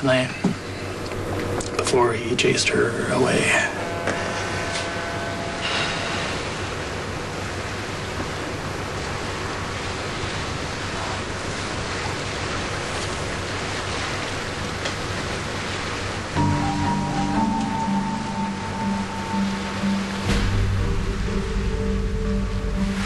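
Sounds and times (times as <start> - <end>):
wind: 0.0 - 23.0
ocean waves washing: 0.6 - 23.0.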